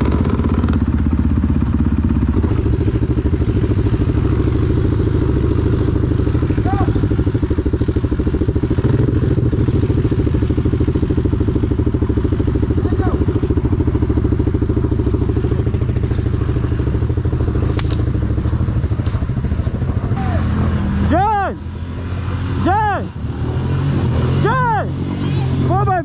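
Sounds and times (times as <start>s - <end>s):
vehicle engine at high revs: 0.0s - 26.0s.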